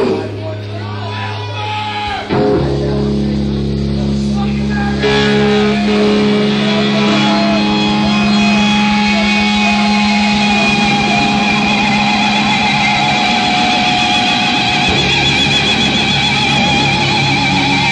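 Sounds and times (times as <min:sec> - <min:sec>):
metal band with distorted guitars: 0:00.0 - 0:17.9.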